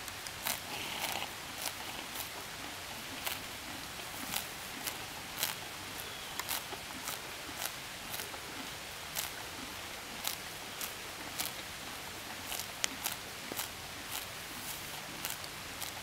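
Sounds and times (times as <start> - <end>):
horse tearing grass: 0.0 - 16.0.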